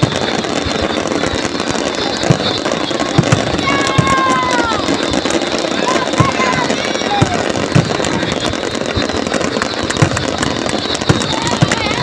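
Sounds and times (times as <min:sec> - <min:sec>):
fireworks bangs: 0:00.0 - 0:12.0
fireworks crackling: 0:00.0 - 0:12.0
fireworks whistling: 0:00.0 - 0:12.0.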